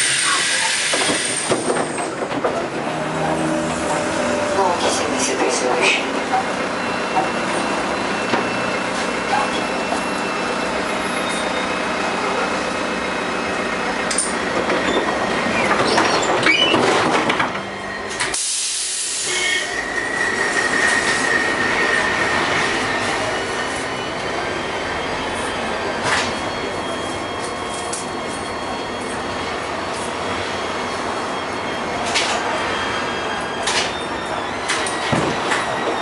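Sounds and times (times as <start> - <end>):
tram wheels rumbling on rails: 0.0 - 36.0
high wheel squeal: 2.9 - 36.0.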